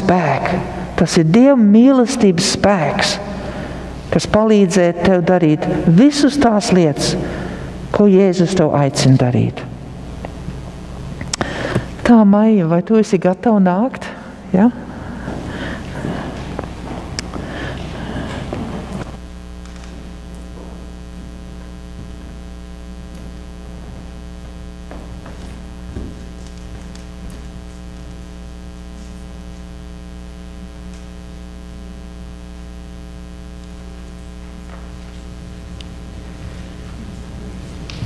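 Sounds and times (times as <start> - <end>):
electrical mains hum: 0.0 - 38.0.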